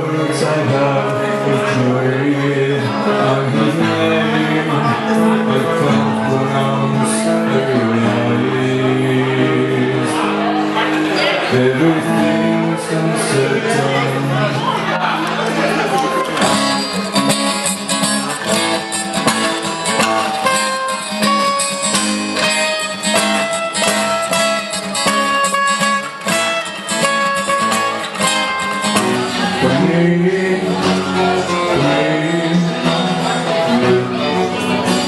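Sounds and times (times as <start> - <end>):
acoustic guitars playing: 0.0 - 35.0.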